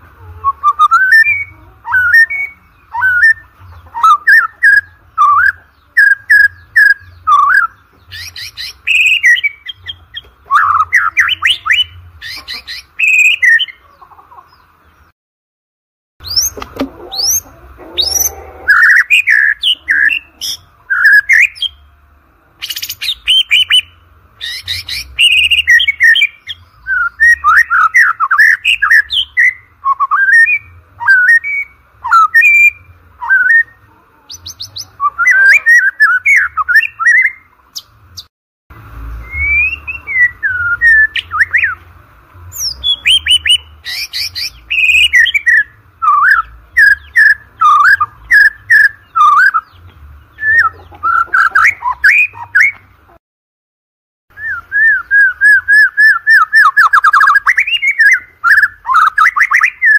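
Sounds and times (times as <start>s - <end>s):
bird singing whistled phrases: 0.4s - 13.8s, 16.2s - 21.8s, 22.6s - 37.5s, 39.2s - 41.8s, 42.5s - 49.8s, 50.4s - 52.8s, 54.3s - 59.9s.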